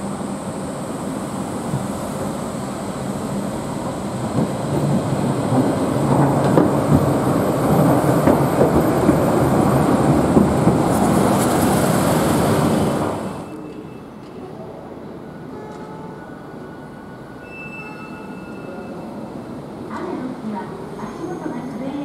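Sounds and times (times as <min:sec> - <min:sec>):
tram wheels rolling on track: 0:00.5 - 0:22.0.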